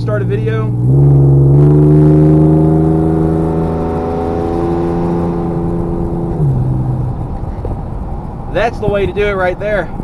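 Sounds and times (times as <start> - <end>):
car engine accelerating: 0.0 - 8.6.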